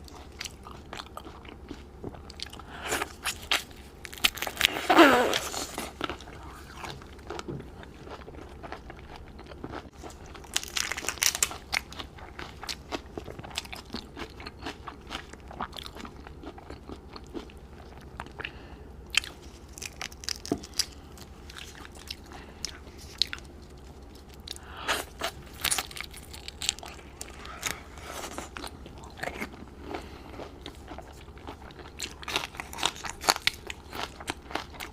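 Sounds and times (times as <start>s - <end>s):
person crunching food: 0.0s - 34.9s.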